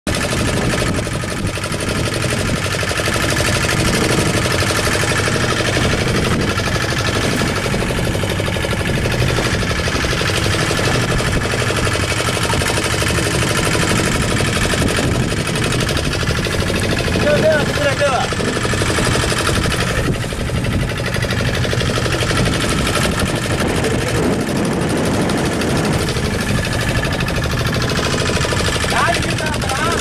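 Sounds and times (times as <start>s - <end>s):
outboard motor running: 0.1s - 30.0s.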